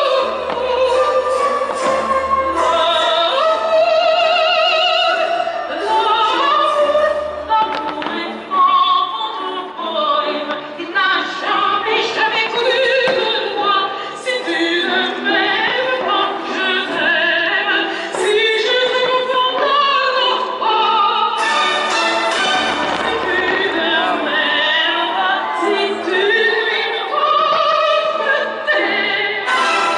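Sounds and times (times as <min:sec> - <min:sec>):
orchestral accompaniment: 0:00.0 - 0:10.4, 0:14.3 - 0:28.0, 0:28.8 - 0:29.9
operatic singing: 0:00.0 - 0:29.9.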